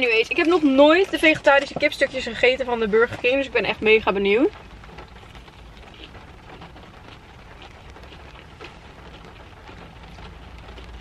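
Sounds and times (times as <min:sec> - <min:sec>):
rain on car roof: 0:00.0 - 0:11.0.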